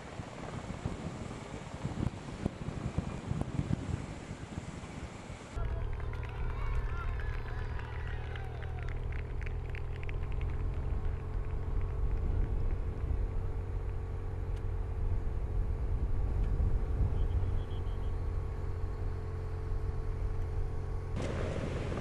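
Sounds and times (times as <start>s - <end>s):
low wind rumble: 0.0s - 22.0s
motorcycle engine drone: 0.0s - 22.0s.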